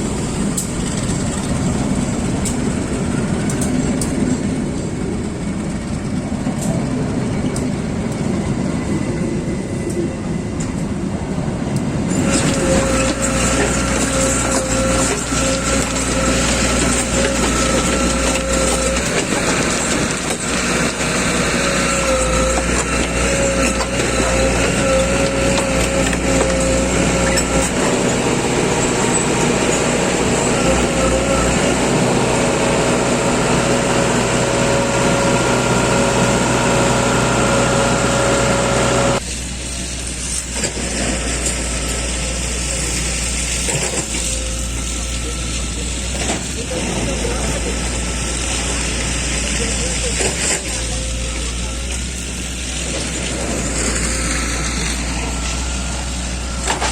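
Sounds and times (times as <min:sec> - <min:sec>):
heavy machinery whining: 0:00.0 - 0:56.9.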